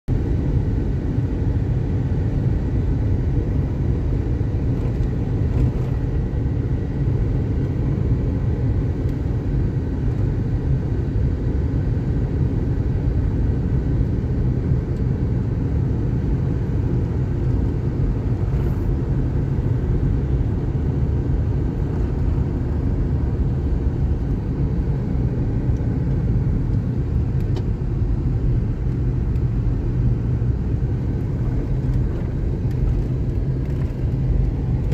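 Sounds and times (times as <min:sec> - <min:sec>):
car engine and tyre rumble: 0:00.1 - 0:34.9.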